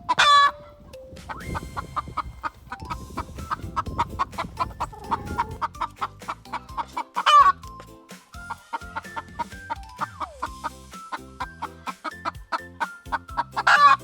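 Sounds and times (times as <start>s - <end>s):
chickens clucking: 0.0s - 7.6s, 8.5s - 14.0s.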